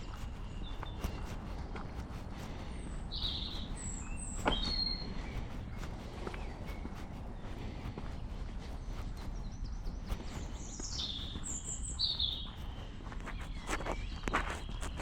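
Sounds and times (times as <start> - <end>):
footsteps on a path: 0.0 - 15.0
low background rumble: 0.0 - 15.0
songbird chirping: 0.0 - 15.0.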